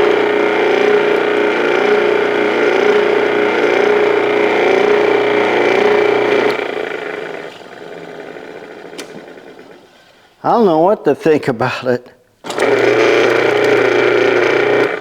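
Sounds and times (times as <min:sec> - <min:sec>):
garbage disposal motor humming: 0:00.0 - 0:10.3, 0:12.4 - 0:15.0.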